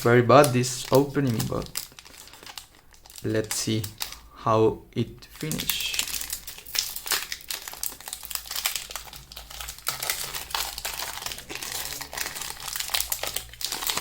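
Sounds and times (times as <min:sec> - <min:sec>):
foil wrapper crinkling and tearing: 0:00.0 - 0:04.3, 0:05.4 - 0:14.0.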